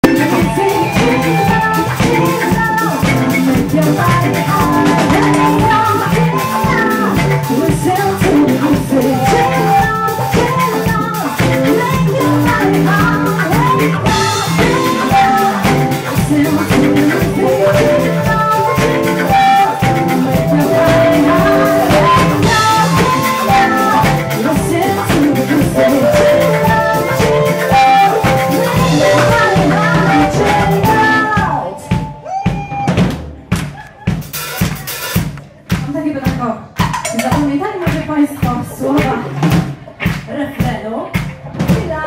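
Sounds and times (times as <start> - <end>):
woman singing: 0.0 - 33.0, 35.8 - 42.0
bass: 0.0 - 42.0
drum kit: 0.0 - 42.0.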